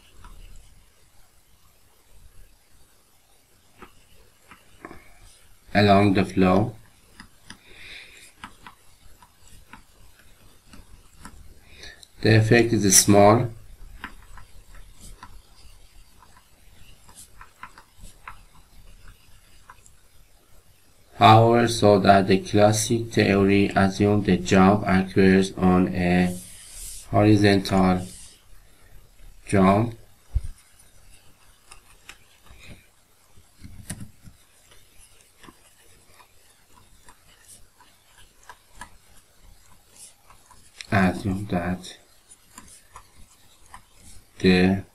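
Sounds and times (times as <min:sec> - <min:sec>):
stylus tapping and scratching: 0:00.0 - 0:02.5, 0:03.6 - 0:44.9.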